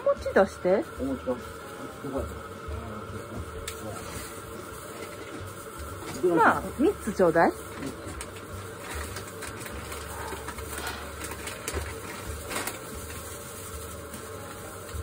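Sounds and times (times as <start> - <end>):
plastic bag rustling: 0.2 - 15.0.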